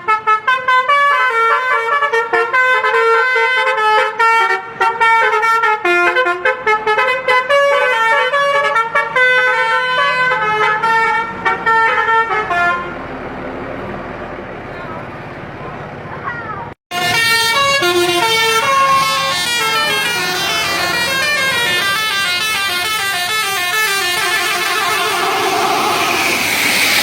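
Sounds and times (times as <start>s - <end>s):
multi-tone musical air horn: 0.0s - 13.0s, 16.9s - 27.0s.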